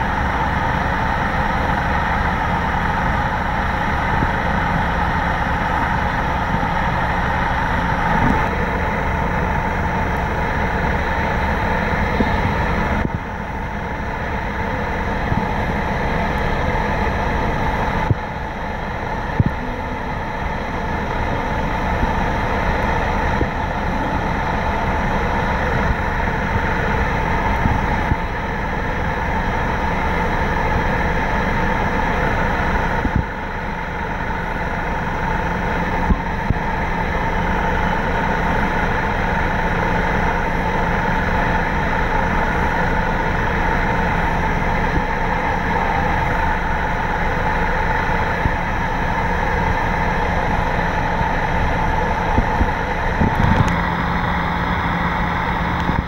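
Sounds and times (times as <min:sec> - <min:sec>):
ferry engines droning: 0:00.0 - 0:56.0
water jets whining: 0:00.0 - 0:56.0.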